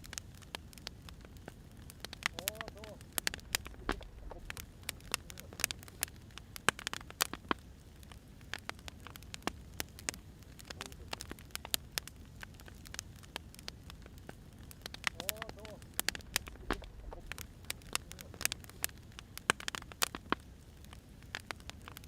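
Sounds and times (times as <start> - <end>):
faint steady hiss: 0.0 - 22.0
wood fire crackling: 0.0 - 22.0.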